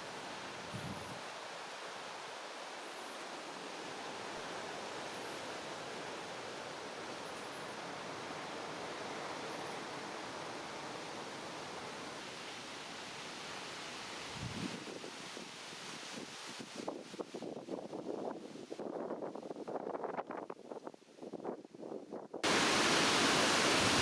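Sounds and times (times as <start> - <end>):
outdoor hiss: 0.0 - 19.9, 22.4 - 24.0.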